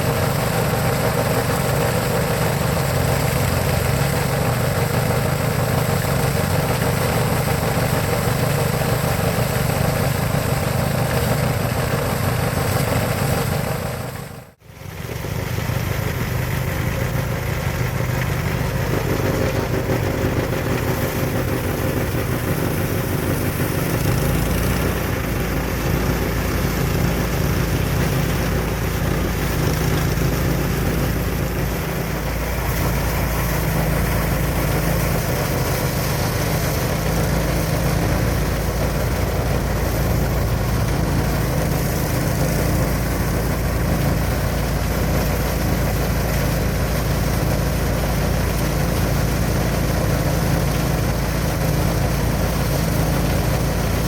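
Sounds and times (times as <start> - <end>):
thresher engine drone and hiss: 0.0 - 54.0.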